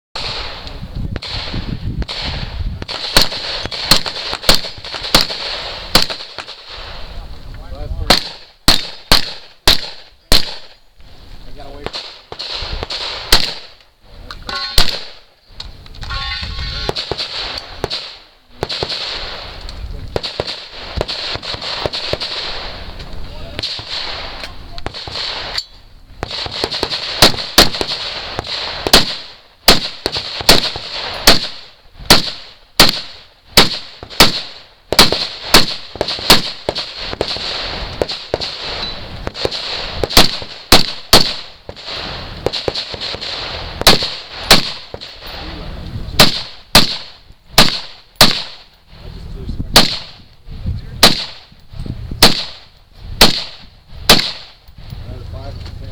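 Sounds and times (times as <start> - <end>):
gunshots: 0.2 - 7.2, 8.0 - 10.8, 11.6 - 13.8, 14.5 - 15.3, 16.0 - 25.6, 26.2 - 48.7, 49.7 - 50.3, 51.0 - 51.6, 52.2 - 54.6.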